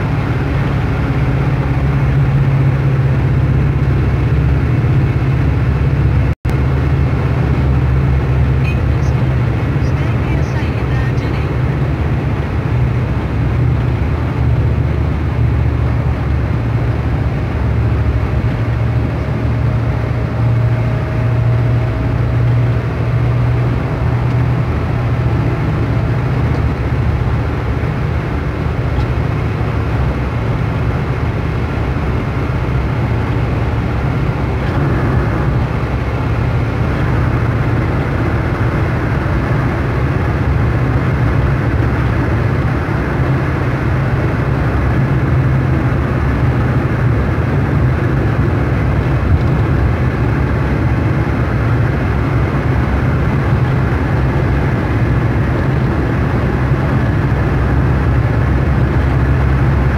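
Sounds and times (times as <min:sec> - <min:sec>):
car engine hum: 0:00.0 - 0:59.9.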